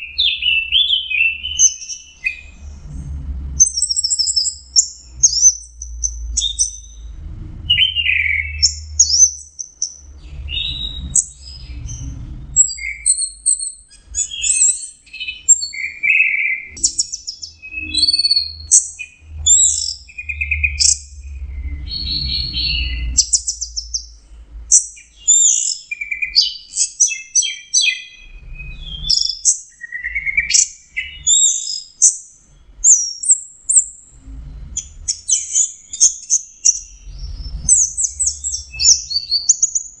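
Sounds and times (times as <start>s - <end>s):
low rumbling noise: 0.0s - 26.4s, 28.1s - 29.3s, 33.6s - 39.5s.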